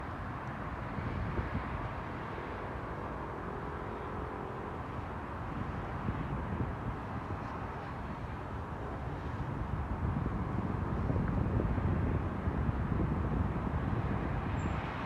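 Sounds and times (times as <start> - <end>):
wind buffeting microphone: 0.0 - 3.3, 4.8 - 15.0.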